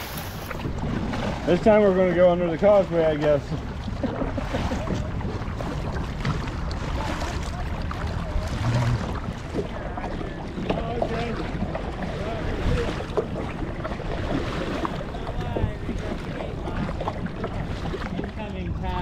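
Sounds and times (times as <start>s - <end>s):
water sloshing around kayak: 0.0s - 19.0s
wind buffeting microphone: 0.0s - 19.0s.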